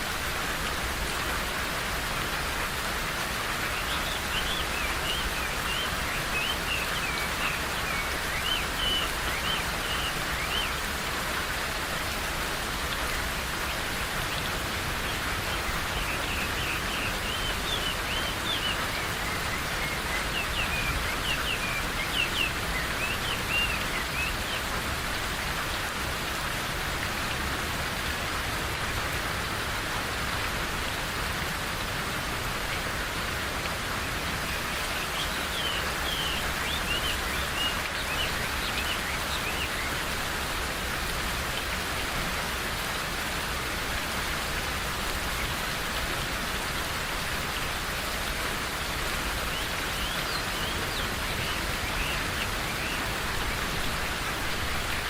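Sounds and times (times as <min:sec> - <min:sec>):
steady rain in a forest: 0:00.0 - 0:55.0.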